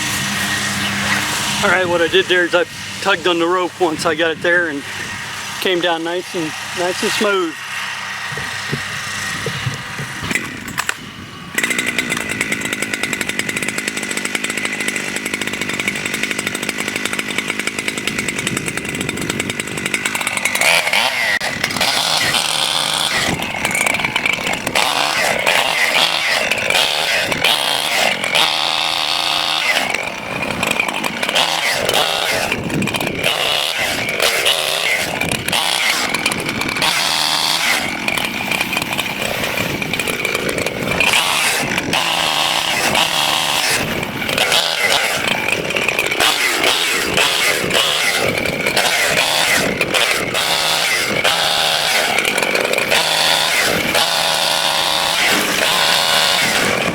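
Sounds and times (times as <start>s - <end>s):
chainsaw running and revving: 0.0s - 56.9s.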